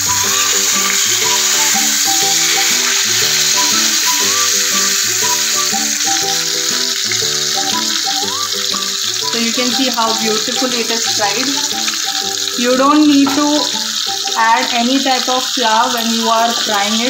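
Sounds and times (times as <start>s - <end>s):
background music with melody: 0.0s - 16.7s
fish sizzling in oil: 0.0s - 17.0s.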